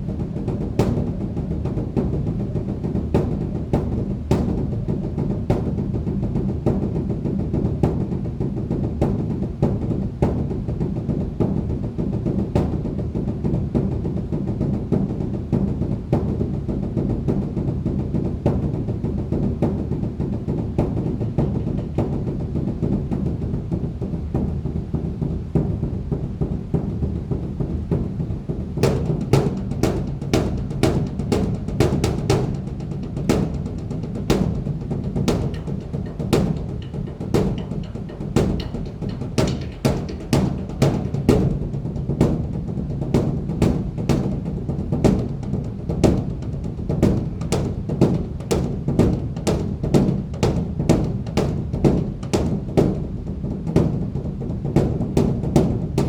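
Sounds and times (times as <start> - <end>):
large drum rolling rhythm: 0.0 - 56.0.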